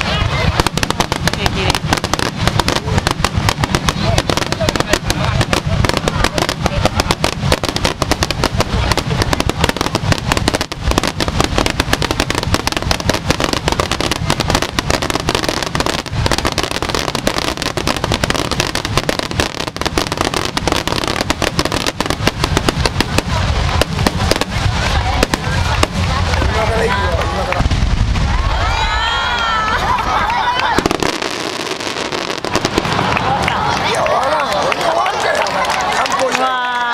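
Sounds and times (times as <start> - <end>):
fireworks crackling and banging: 0.0 - 36.9.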